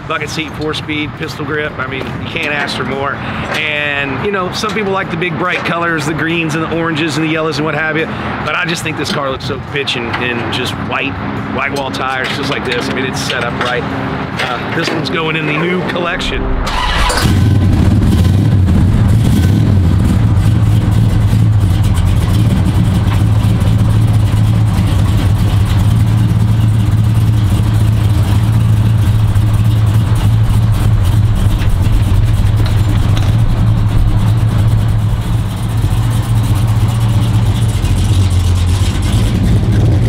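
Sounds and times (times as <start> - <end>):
car engine idling loudly: 0.0 - 40.0.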